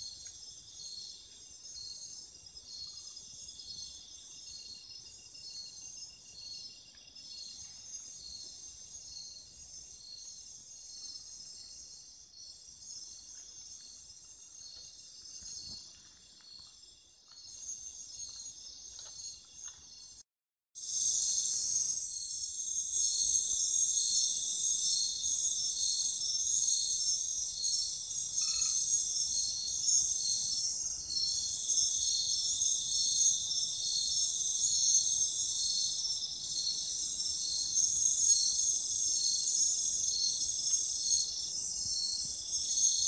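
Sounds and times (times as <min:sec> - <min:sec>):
night insects trilling: 0:00.0 - 0:20.2, 0:20.8 - 0:43.0.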